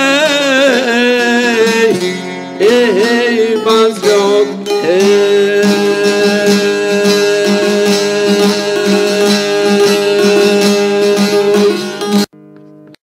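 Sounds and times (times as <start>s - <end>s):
man singing long held note: 0.0s - 12.0s
plucked lute strummed: 0.0s - 13.0s.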